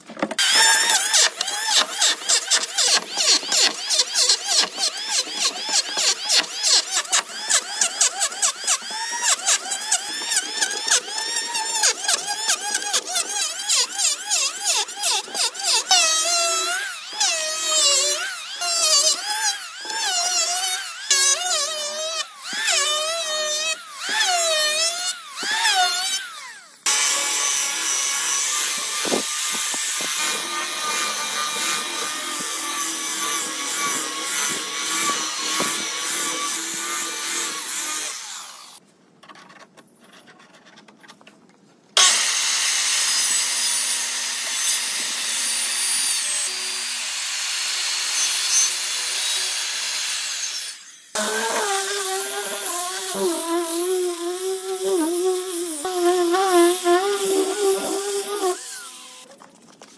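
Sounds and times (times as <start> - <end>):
power tool cutting wood: 0.2 - 38.8, 42.0 - 59.3.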